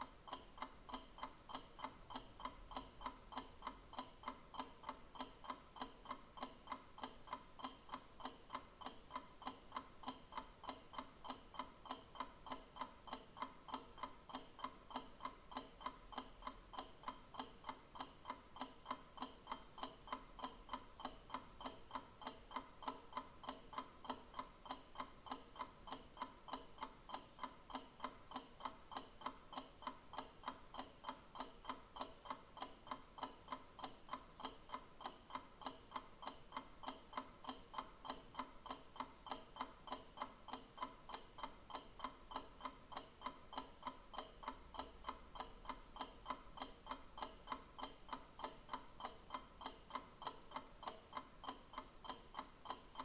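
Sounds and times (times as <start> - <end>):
mechanical clock ticking: 0.0 - 53.0.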